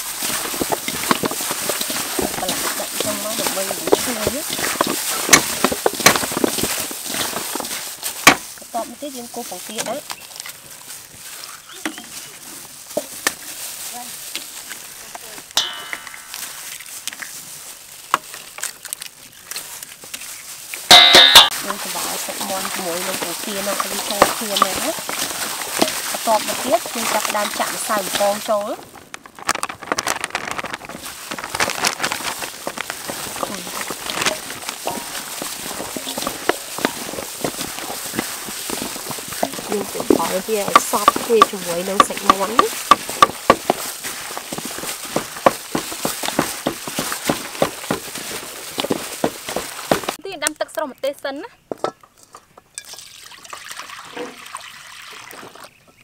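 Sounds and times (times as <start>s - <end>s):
chicken tossed in flour: 0.0s - 15.5s, 16.3s - 50.2s
low outdoor background: 0.0s - 56.0s.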